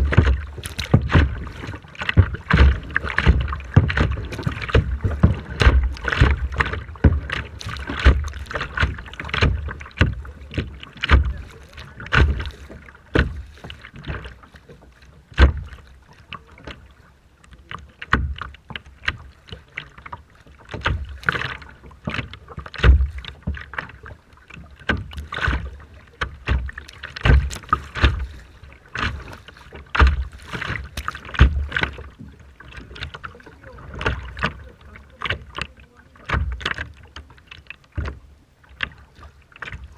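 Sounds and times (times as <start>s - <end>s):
choppy water splashing: 0.0s - 39.9s.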